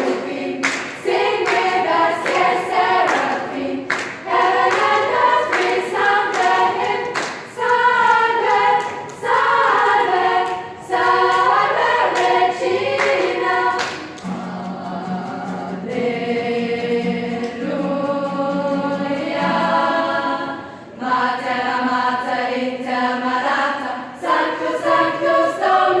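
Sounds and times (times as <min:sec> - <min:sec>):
youth choir singing: 0:00.0 - 0:26.0.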